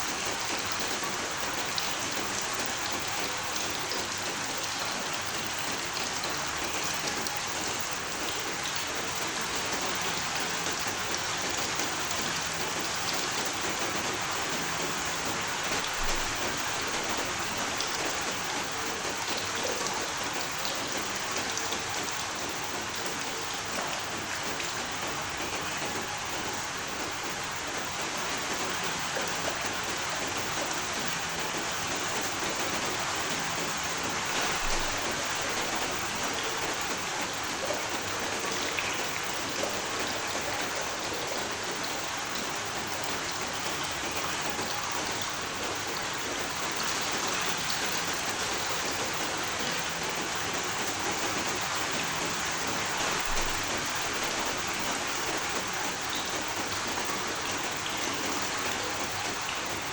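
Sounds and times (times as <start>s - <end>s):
raindrops ticking: 0.0s - 59.9s
steady rain hiss: 0.0s - 59.9s.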